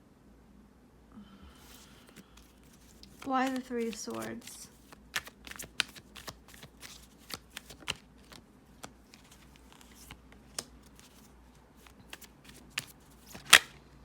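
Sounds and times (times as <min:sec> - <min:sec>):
cards being shuffled: 0:01.6 - 0:13.8.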